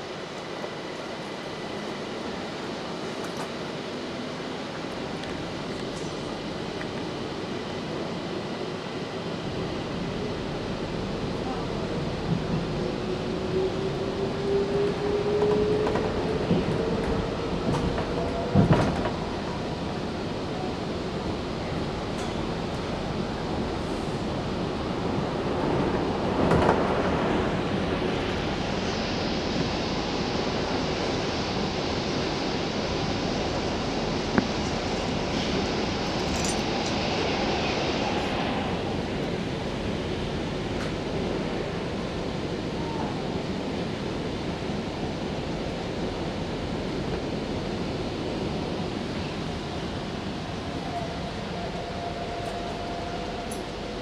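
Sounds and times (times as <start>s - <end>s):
train rumbling through tunnel: 0.0s - 54.0s.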